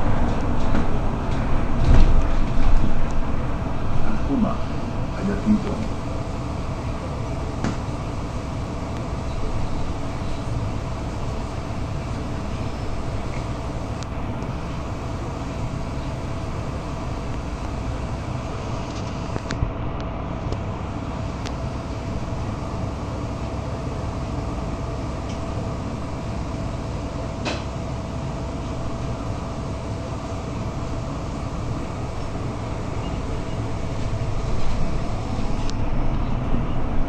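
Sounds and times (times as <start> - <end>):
bus engine and road noise: 0.0 - 37.0
constant whine: 0.0 - 37.0.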